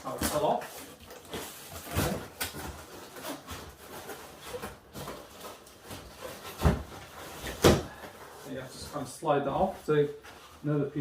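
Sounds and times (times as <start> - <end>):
cardboard rustling and scraping: 0.1 - 10.8.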